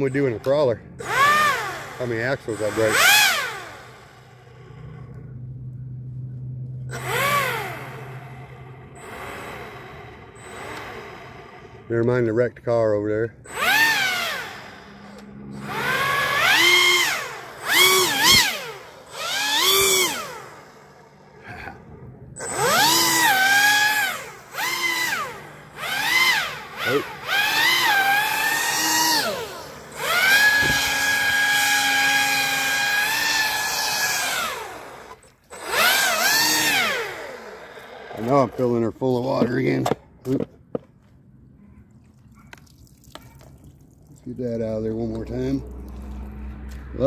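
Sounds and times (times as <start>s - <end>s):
electric motor and propeller whining: 0.0s - 40.4s, 44.2s - 47.0s.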